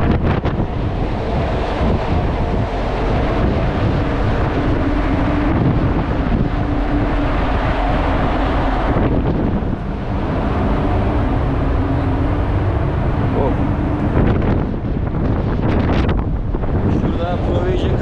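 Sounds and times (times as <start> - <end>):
low steady rumble: 0.0 - 18.0
wind buffeting microphone: 0.0 - 18.0.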